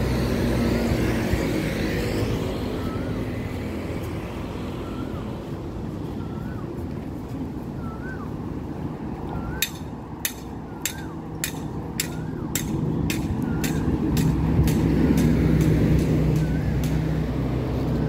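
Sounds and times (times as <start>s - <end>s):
passing vehicle engine hum: 0.0s - 18.0s.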